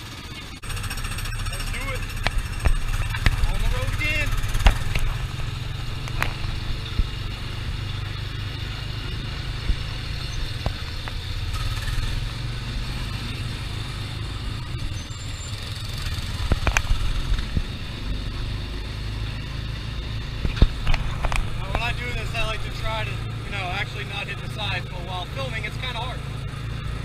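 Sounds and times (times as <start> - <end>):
small gasoline engine droning: 0.0 - 27.0.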